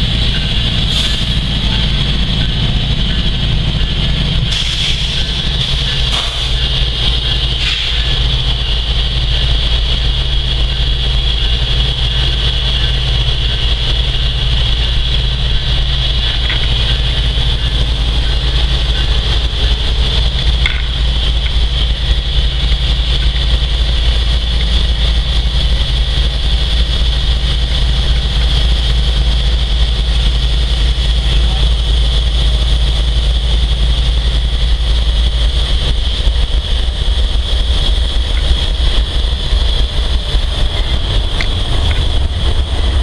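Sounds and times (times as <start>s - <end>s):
diesel locomotive drone: 0.0s - 43.0s
high-pitched whine: 0.0s - 43.0s.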